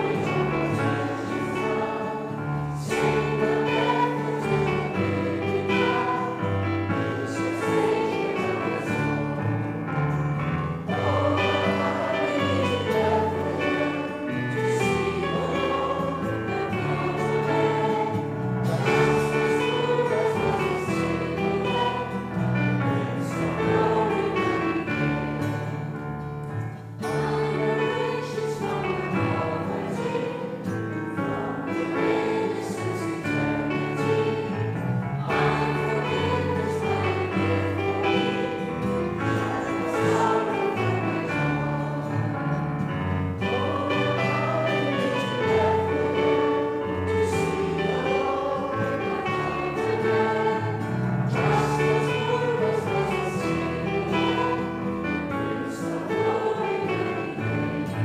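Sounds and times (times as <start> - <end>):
group singing worship song: 0.0 - 58.0
instrumental accompaniment: 0.0 - 58.0.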